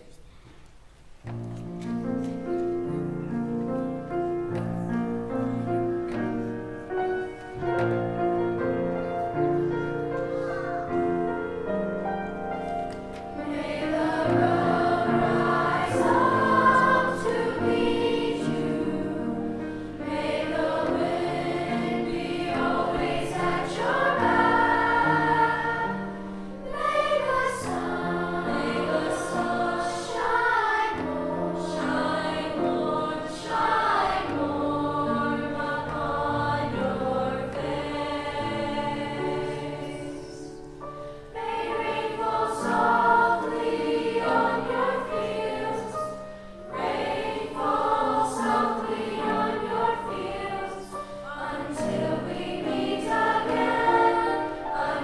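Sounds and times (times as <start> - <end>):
children's choir singing: 1.3 - 55.0.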